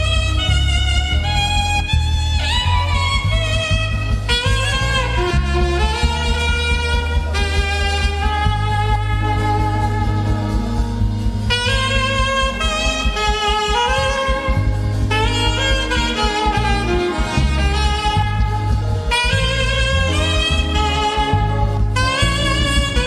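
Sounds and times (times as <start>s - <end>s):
instrumental praise music: 0.0s - 23.0s.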